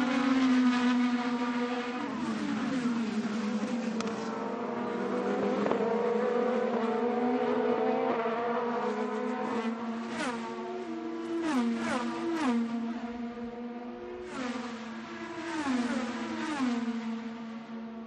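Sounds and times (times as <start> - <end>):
race car engine at speed: 0.0 - 18.0.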